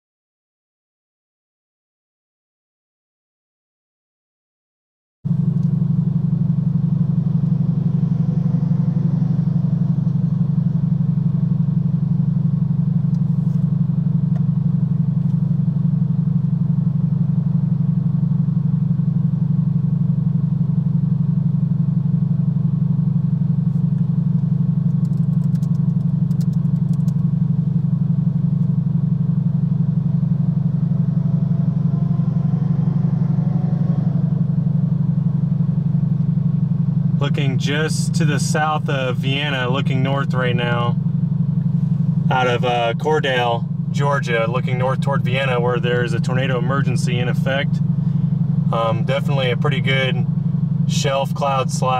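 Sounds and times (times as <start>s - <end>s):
vehicle engine droning: 5.3s - 51.9s.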